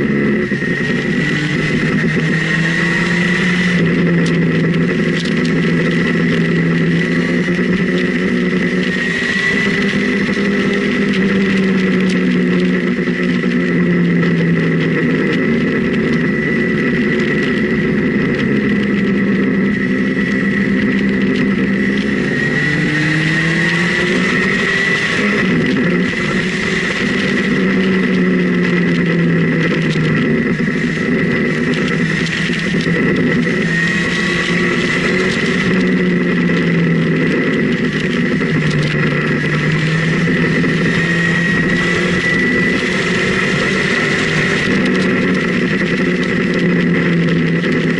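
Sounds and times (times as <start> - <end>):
high whine: 0.0 - 47.9
motorcycle engine revving: 0.0 - 47.9
rush of noise: 0.0 - 47.9.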